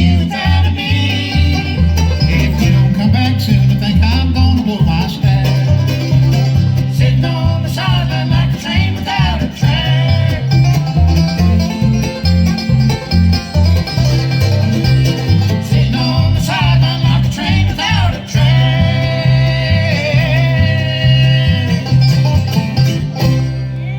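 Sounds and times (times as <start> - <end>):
banjo: 0.0 - 23.9
bluegrass band playing: 0.0 - 23.9
guitar: 0.0 - 23.9
low bass notes: 0.0 - 23.9.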